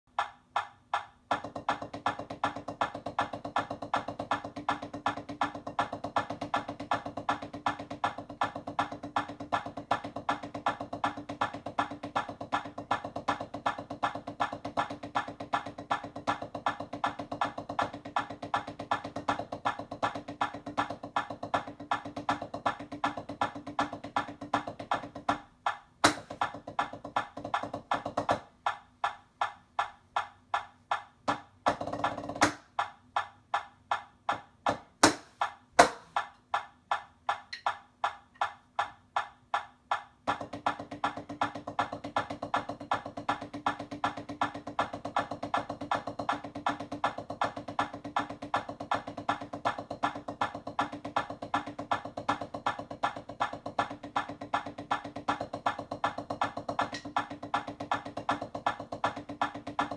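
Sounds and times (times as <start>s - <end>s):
drumsticks on practice pad: 0.1s - 59.9s.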